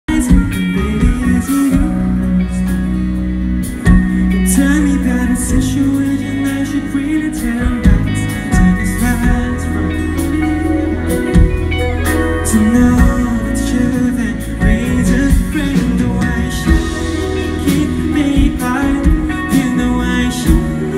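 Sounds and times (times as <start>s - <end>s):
bass guitar: 0.0s - 20.9s
keyboard: 0.0s - 20.9s
man singing lead vocal: 0.0s - 20.9s
drum kit: 0.1s - 20.9s
electric guitars: 0.1s - 20.9s.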